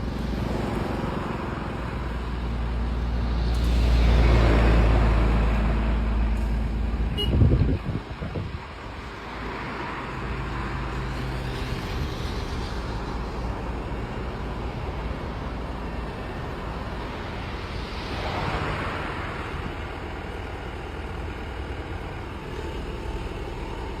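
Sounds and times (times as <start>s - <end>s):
excavator engine humming: 0.0s - 24.0s.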